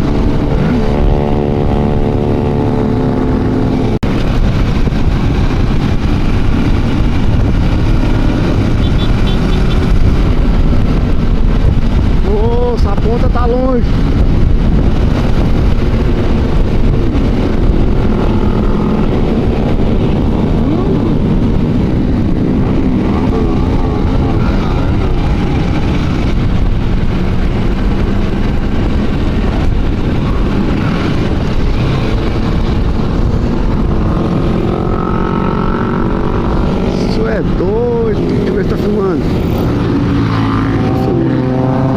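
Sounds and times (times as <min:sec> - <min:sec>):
group of motorcycles riding: 0:00.0 - 0:41.9.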